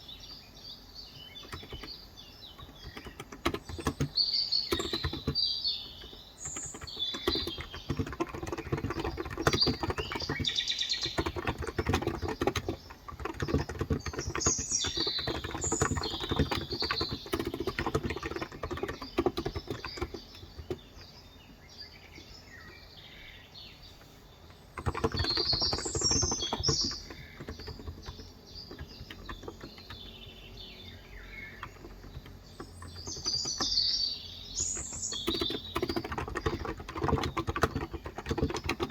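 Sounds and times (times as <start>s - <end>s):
birds chirping: 0.0s - 38.9s
fast keyboard typing: 1.2s - 21.2s, 24.5s - 38.9s.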